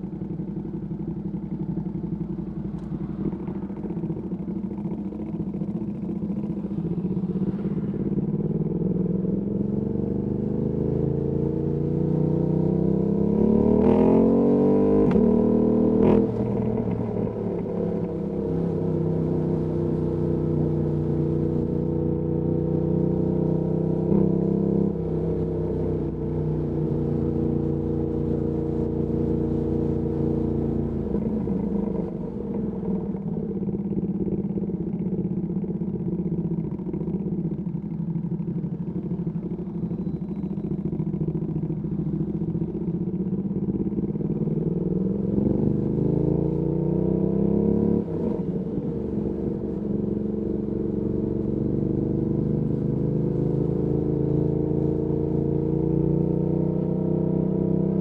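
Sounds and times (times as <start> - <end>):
city traffic: 0.0 - 58.0.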